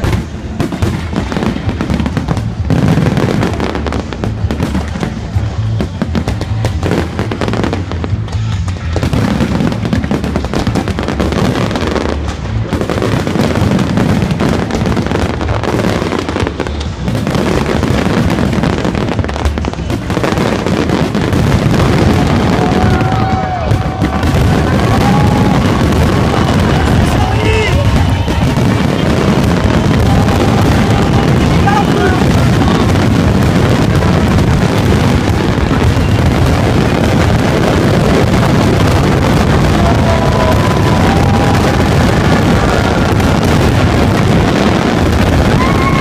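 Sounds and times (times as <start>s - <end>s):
music playing: 0.0s - 44.7s
fireworks exploding and crackling: 0.0s - 46.0s.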